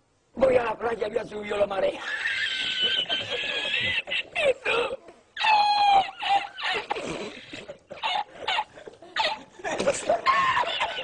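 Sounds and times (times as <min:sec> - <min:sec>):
man's squealing laughter: 0:02.0 - 0:11.0.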